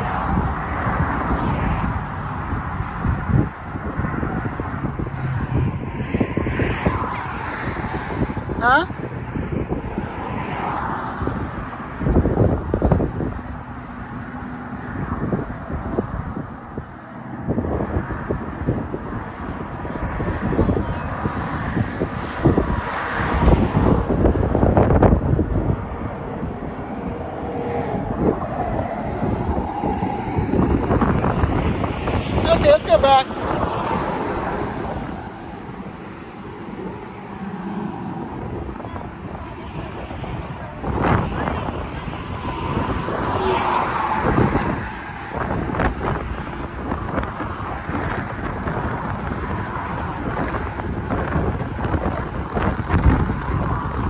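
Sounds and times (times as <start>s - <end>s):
passing traffic drone: 0.0s - 54.0s
wind buffeting microphone: 0.0s - 54.0s.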